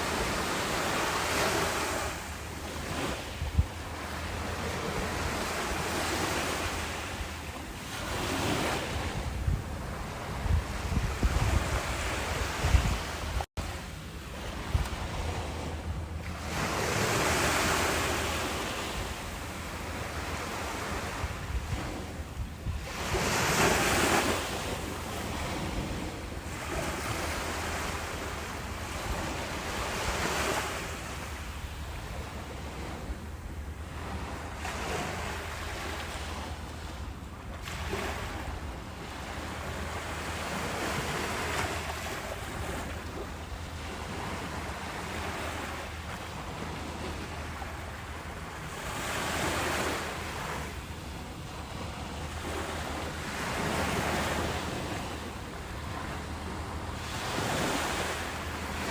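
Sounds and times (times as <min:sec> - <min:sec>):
ocean waves washing in: 0:00.0 - 0:58.9.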